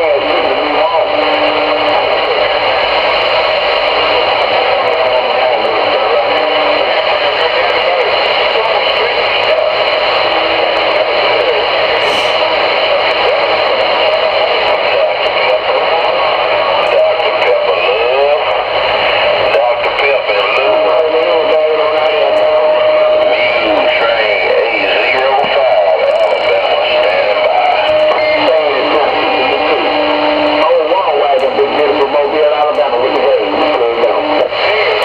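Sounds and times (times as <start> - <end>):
garbled radio voices: 0.0 - 35.0
radio static: 0.0 - 35.0.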